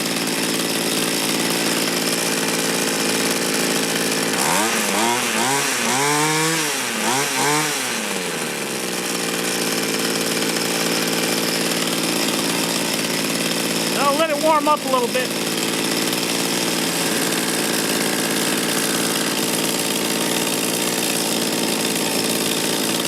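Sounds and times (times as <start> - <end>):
small two-stroke engine revving: 0.0 - 23.0.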